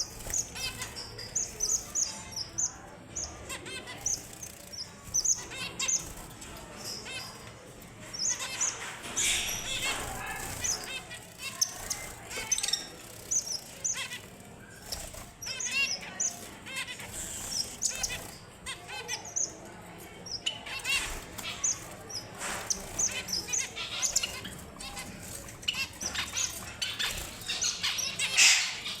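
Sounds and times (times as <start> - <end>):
finches chirping: 0.0 - 29.0.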